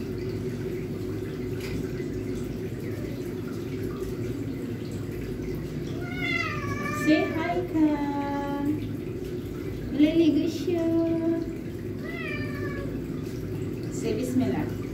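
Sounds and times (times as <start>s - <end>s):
tap water pouring into sink: 0.0s - 14.9s.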